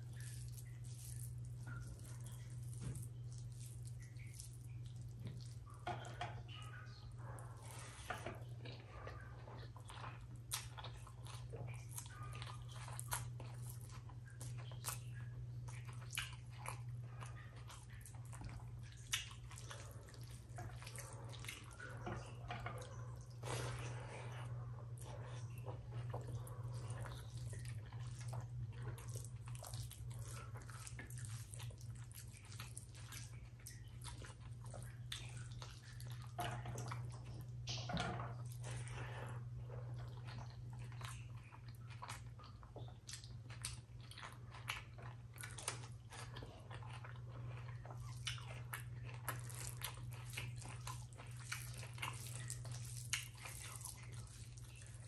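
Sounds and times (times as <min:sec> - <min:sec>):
steady low hum: 0:00.0 - 0:55.0
wet chewing: 0:00.0 - 0:55.0.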